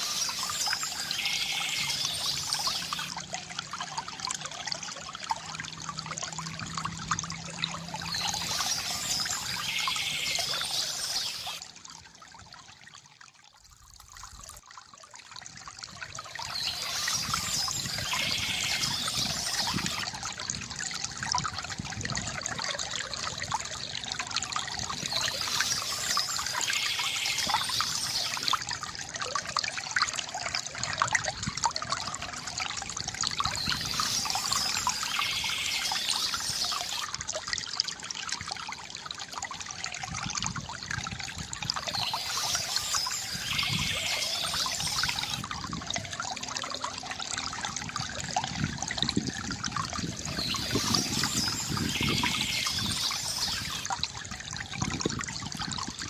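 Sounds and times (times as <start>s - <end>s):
water trickling into a basin: 0.0s - 56.0s.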